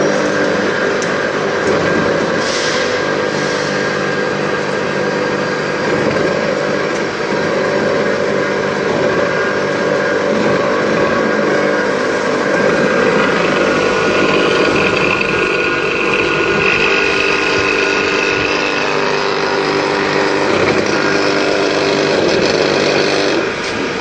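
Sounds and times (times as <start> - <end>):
electric mill grinding peanuts: 0.0 - 24.0.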